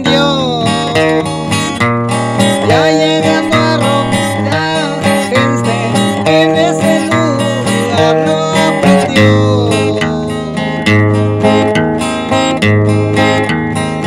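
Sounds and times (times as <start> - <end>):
acoustic guitar melody: 0.0 - 14.0.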